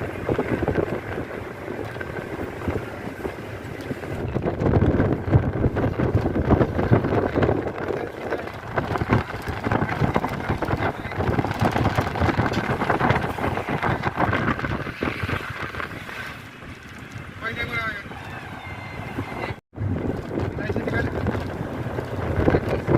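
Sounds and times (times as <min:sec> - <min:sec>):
vehicle engine rumbling: 0:00.0 - 0:22.9
wind buffeting microphone: 0:00.0 - 0:22.9.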